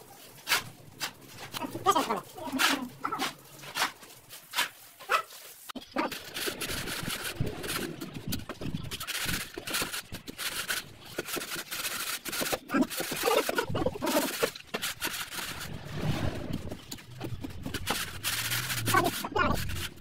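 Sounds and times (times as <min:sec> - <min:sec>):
straightedge scraping wet screed: 0:02.4 - 0:05.3, 0:06.0 - 0:20.0.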